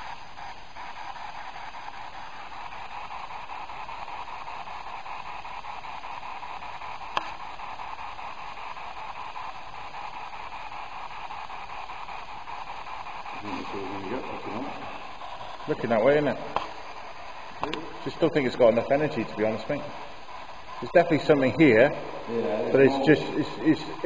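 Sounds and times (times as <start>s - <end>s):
static hiss: 0.0s - 24.0s.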